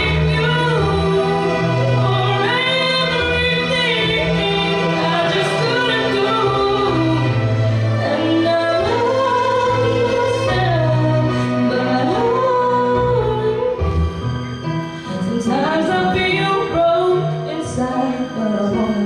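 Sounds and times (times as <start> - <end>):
woman singing into a microphone: 0.0 - 13.9, 15.1 - 19.0
backing music: 0.0 - 19.0.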